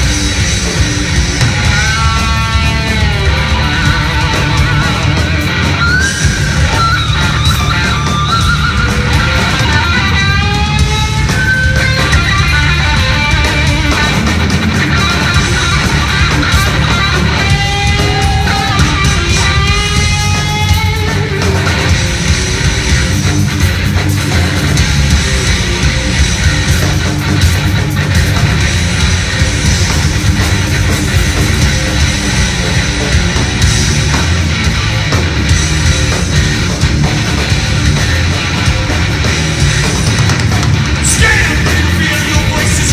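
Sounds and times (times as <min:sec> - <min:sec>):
heavy metal band playing live: 0:00.0 - 0:42.9.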